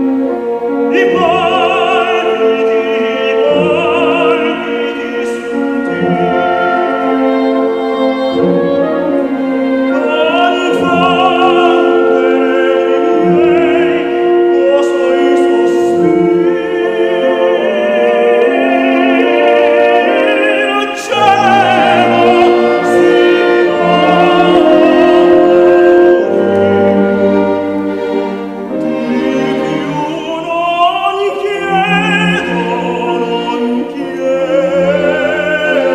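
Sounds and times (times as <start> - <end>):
operatic singing with vibrato: 0.0 - 35.9
orchestral accompaniment: 0.0 - 35.9.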